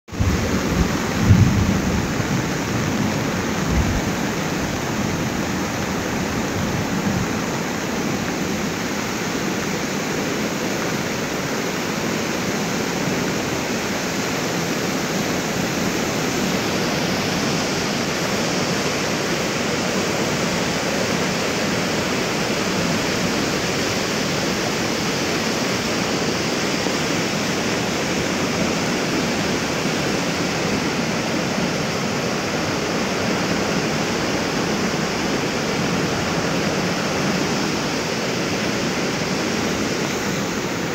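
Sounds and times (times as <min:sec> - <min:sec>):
river rushing: 0:00.1 - 0:40.9.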